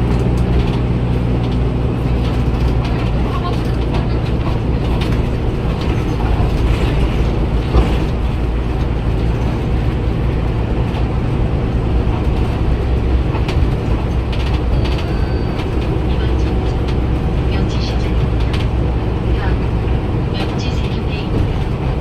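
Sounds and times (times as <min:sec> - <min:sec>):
diesel bus engine droning: 0:00.0 - 0:22.0.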